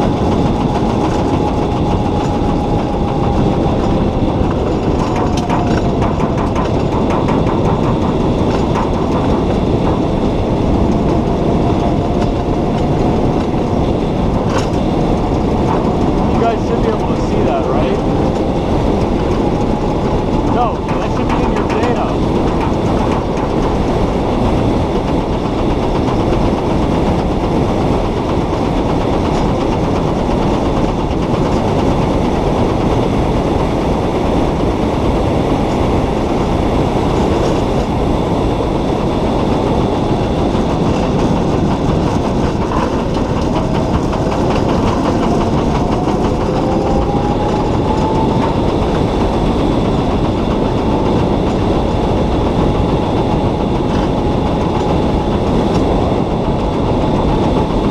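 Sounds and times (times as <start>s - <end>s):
car tyre and road noise: 0.0s - 57.9s.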